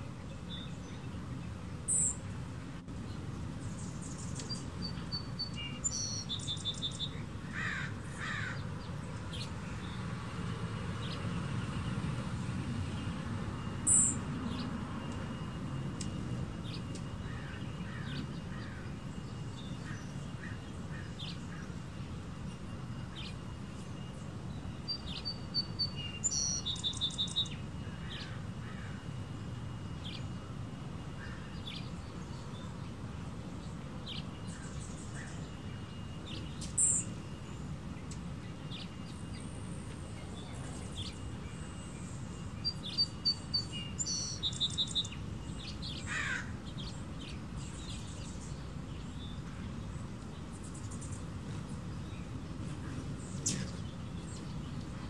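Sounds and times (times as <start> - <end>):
small birds chirping: 0.0 - 30.5, 31.2 - 55.0
low background noise: 0.0 - 55.0.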